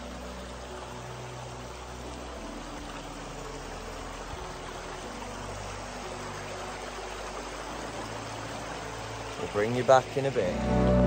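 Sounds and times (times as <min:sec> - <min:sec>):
river running over stones: 0:00.0 - 0:11.0.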